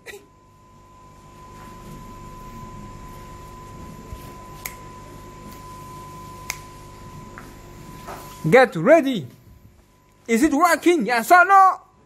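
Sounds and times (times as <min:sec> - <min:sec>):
faint high-pitched tone: 0:00.0 - 0:12.0.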